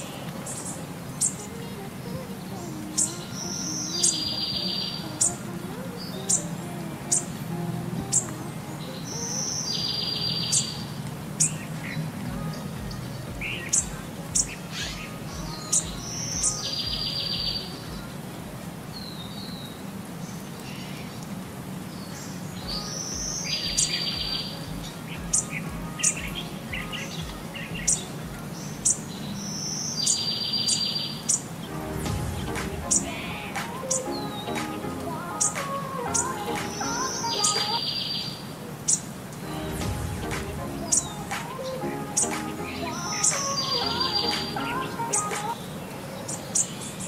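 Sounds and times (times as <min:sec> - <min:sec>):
small birds chirping: 0:00.0 - 0:18.3, 0:18.9 - 0:47.0.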